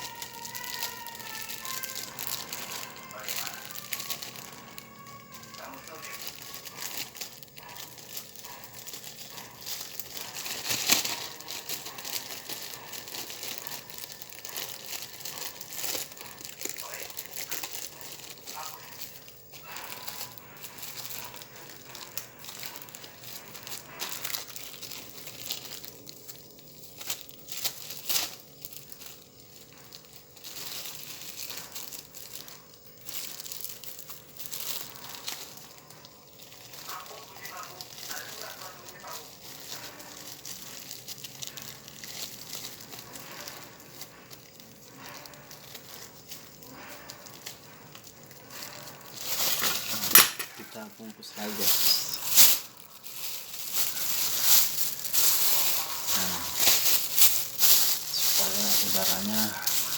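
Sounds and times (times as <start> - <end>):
plastic wrapping crinkling: 0.0 - 59.9.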